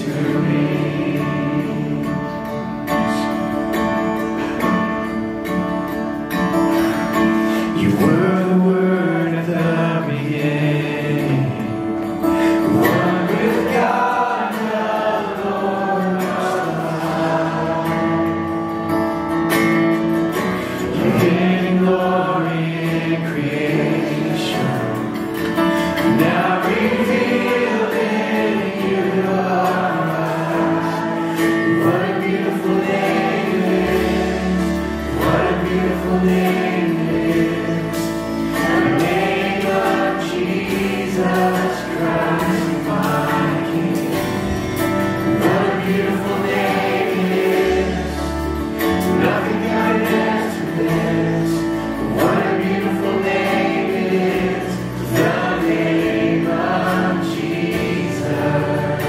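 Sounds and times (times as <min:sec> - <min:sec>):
band playing with acoustic guitar: 0:00.0 - 0:59.0
people singing: 0:00.0 - 0:59.0.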